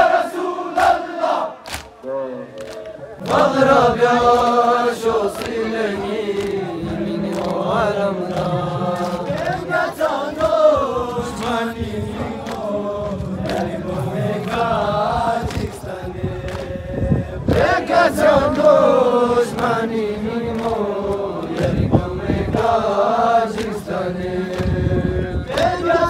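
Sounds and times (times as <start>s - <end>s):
men chanting together: 0.0s - 1.9s, 2.5s - 26.0s
sharp rhythmic beats: 0.0s - 26.0s.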